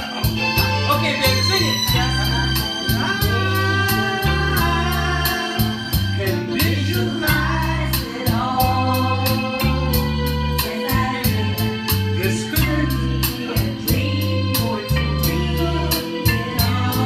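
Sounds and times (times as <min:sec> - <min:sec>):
karaoke backing track with organ: 0:00.0 - 0:17.0
man singing: 0:00.0 - 0:17.0
woman singing: 0:01.3 - 0:17.0.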